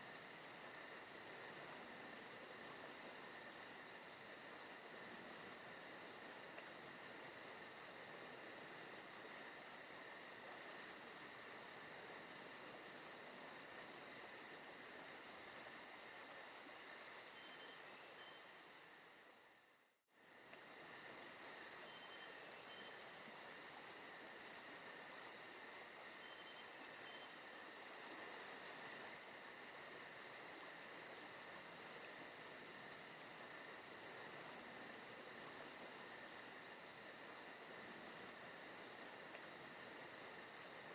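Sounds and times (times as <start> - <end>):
crickets and insects chirping: 0.0 - 40.9.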